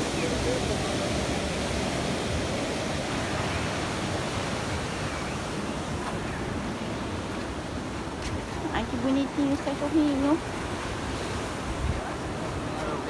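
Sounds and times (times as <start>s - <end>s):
ocean surf on a beach: 0.0s - 13.0s
wind on the microphone: 0.0s - 13.0s.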